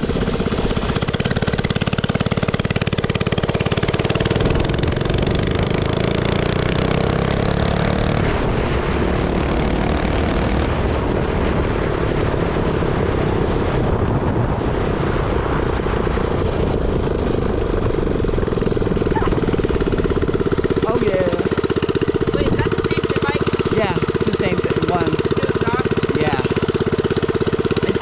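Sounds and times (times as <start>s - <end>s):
minibike engine with loud exhaust: 0.0s - 28.0s.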